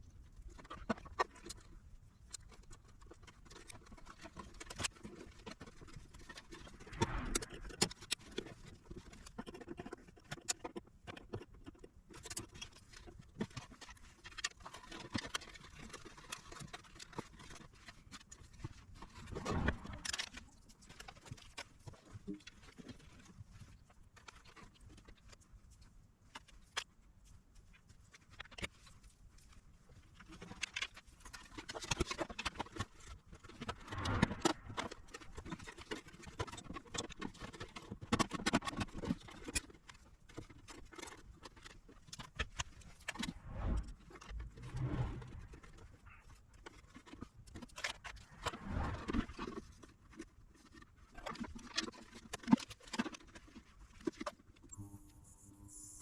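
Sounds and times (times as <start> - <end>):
scraping and rustling: 0.2 - 54.8.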